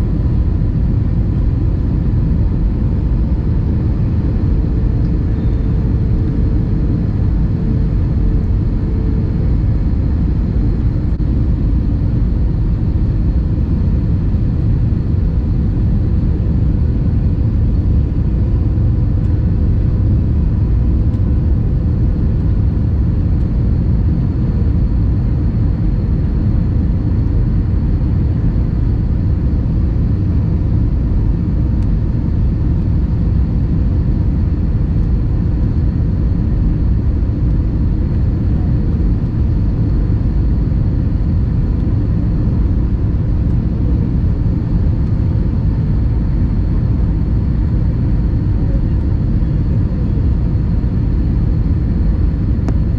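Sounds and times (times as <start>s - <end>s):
jet cabin engine and airflow rumble: 0.0s - 52.9s.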